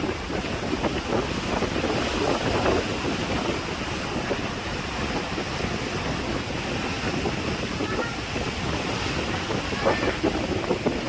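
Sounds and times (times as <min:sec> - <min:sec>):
heavy surf breaking: 0:00.0 - 0:11.0
wind buffeting microphone: 0:00.0 - 0:11.0.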